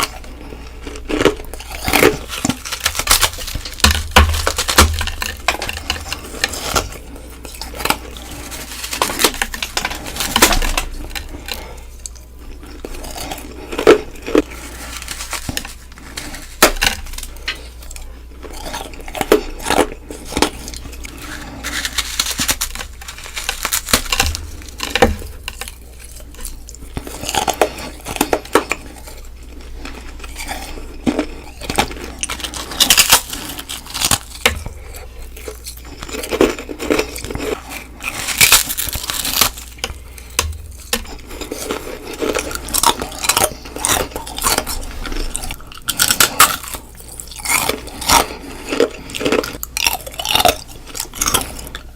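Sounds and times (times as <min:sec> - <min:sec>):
ice being bitten and chewed: 0:00.0 - 0:51.9.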